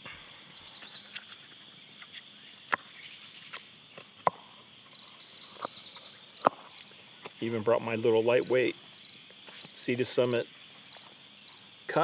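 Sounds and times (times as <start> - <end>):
crickets and insects chorus: 0.0 - 12.0.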